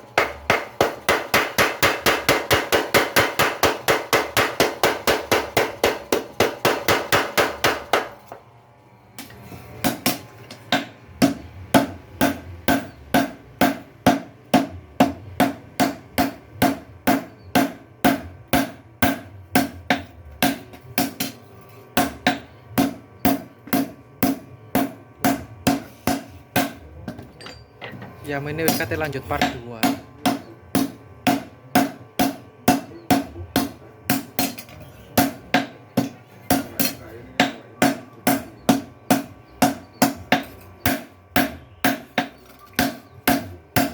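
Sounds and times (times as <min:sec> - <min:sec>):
power hammer pounding: 0:00.0 - 0:08.3, 0:09.8 - 0:27.5, 0:28.1 - 0:43.9.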